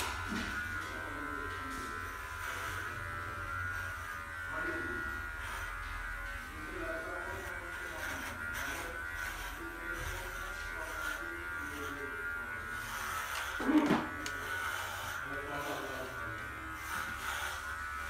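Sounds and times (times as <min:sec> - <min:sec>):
electric clipper buzzing: 0:00.0 - 0:18.0.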